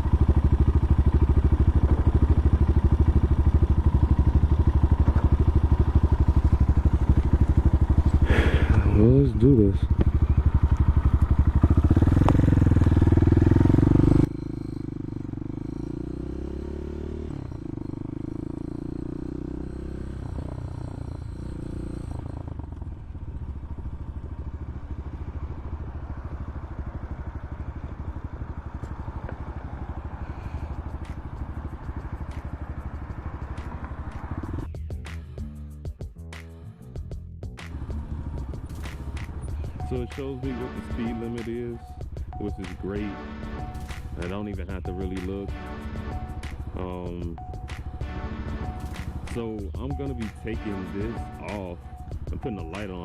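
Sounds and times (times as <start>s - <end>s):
dirt bike engine revving: 0.0s - 34.7s, 37.6s - 53.0s.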